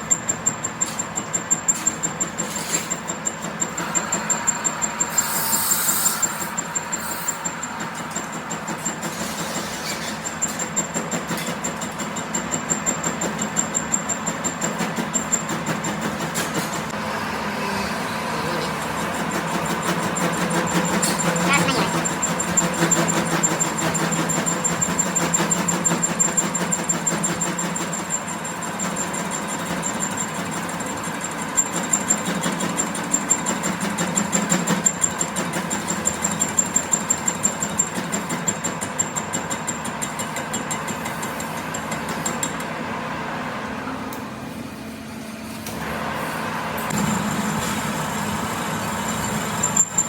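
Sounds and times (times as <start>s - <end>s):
machine knocking and whining: 0.0s - 50.0s.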